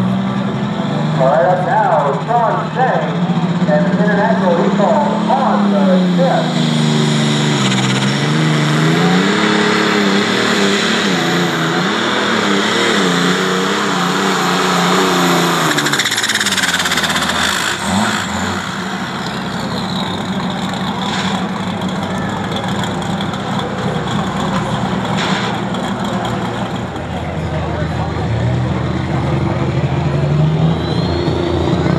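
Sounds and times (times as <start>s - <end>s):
tractor engine running hard: 0.0s - 31.9s.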